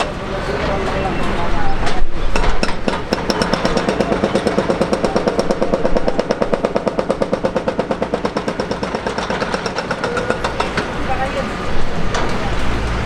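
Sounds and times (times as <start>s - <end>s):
jet engines throbbing: 0.0s - 12.8s.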